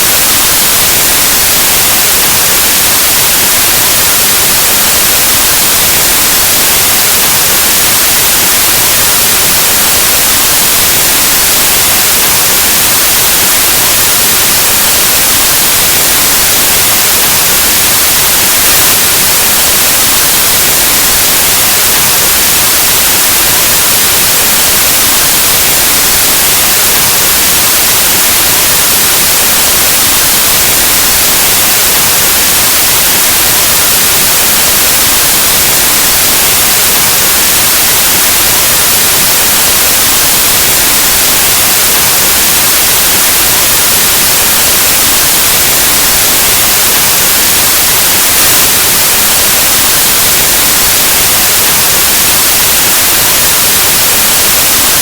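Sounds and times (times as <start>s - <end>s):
loud white noise hiss: 0.0s - 55.0s.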